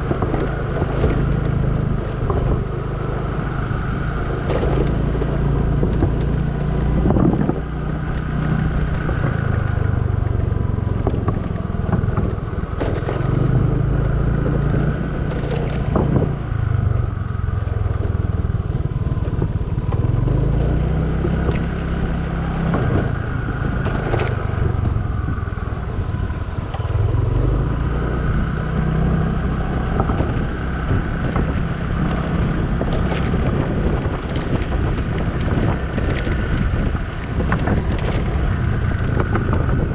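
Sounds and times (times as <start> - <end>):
motor scooter engine running: 0.0 - 39.9.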